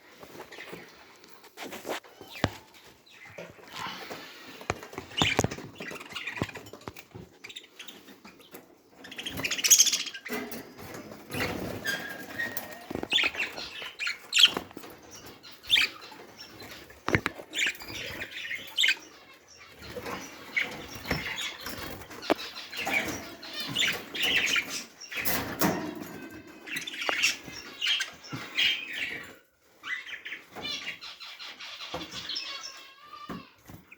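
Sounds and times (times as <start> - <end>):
birds chirping: 0.0 - 33.9
scratchy clicks and rustles: 0.1 - 29.4.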